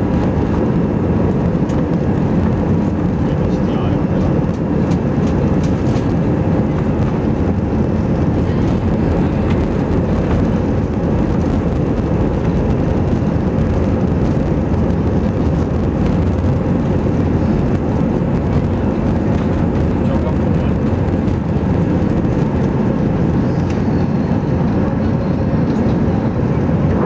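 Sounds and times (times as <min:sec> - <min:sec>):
jet engine cabin rumble: 0:00.0 - 0:27.0.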